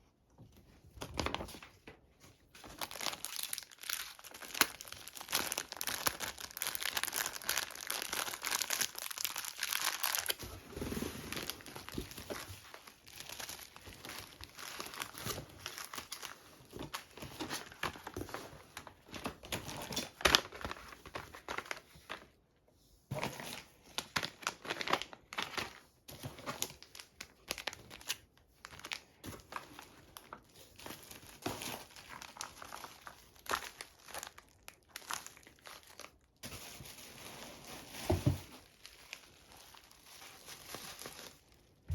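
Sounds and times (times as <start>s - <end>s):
packaging crinkling and tearing: 2.5s - 22.3s, 23.2s - 41.9s.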